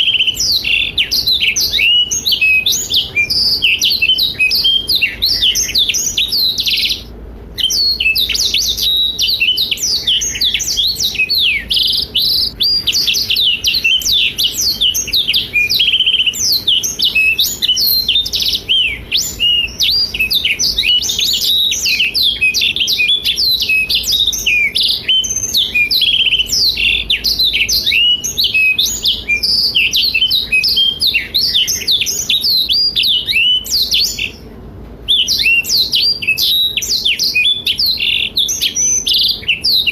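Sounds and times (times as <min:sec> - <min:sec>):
canary singing: 0:00.0 - 0:34.5, 0:35.1 - 0:39.9.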